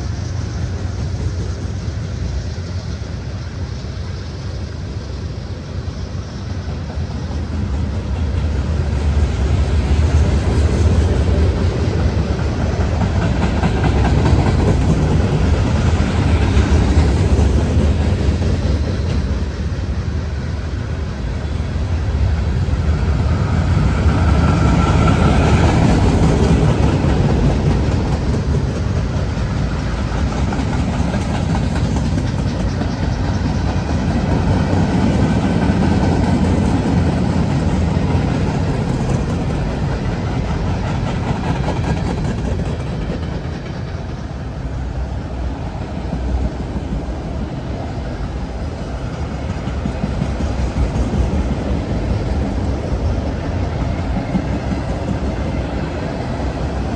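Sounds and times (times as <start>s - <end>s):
freight train rumbling past: 0.0s - 56.9s.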